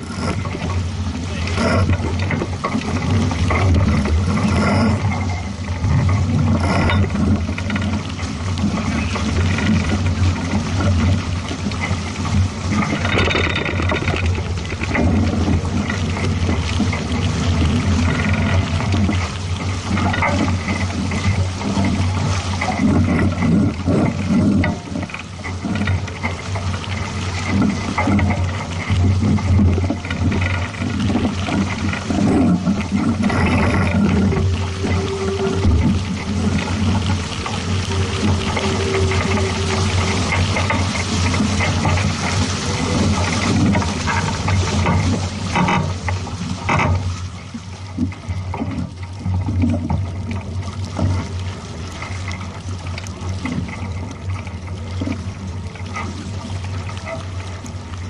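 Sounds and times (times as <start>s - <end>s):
boat engine rumble: 0.0s - 58.0s
water noise: 0.0s - 58.0s.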